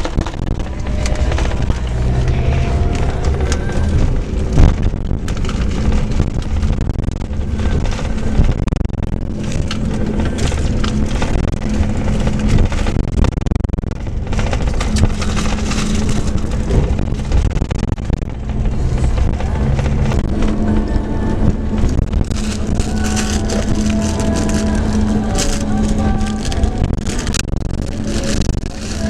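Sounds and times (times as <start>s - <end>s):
bus engine drone: 0.0s - 29.0s
knocks and rattles: 0.0s - 29.0s
road noise: 0.0s - 29.0s.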